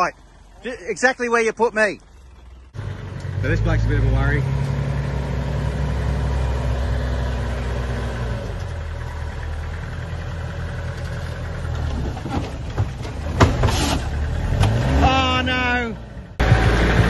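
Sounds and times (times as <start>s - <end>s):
vehicle engine at low revs: 0.0s - 17.0s.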